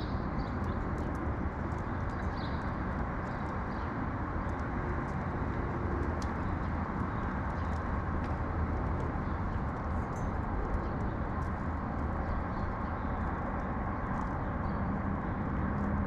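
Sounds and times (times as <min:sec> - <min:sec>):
distant city traffic rumble: 0:00.0 - 0:16.0.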